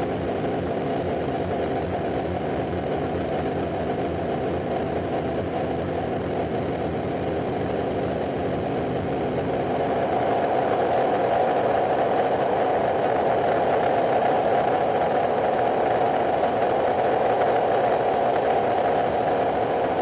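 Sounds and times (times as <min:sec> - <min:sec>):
wall of distorted noise: 0:00.0 - 0:20.0.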